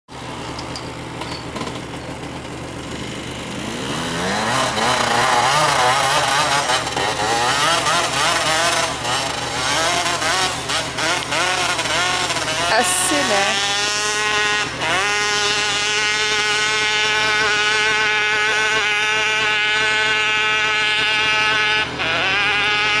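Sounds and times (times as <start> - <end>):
motocross bike engine revving: 0.2 - 23.0.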